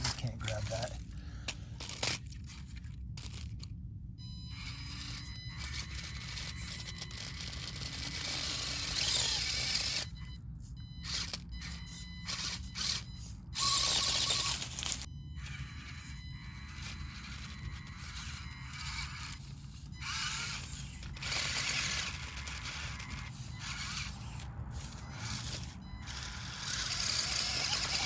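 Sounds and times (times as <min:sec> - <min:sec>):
electric motor and gears whining: 0:00.0 - 0:28.0.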